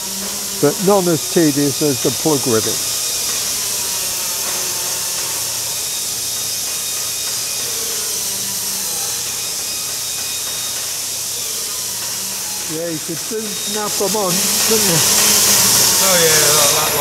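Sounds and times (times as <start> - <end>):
steady hiss: 0.0 - 8.4, 9.4 - 17.0.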